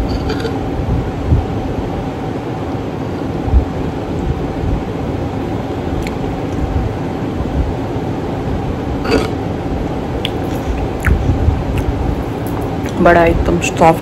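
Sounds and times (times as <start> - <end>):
mechanical hum with rumble: 0.0 - 14.0.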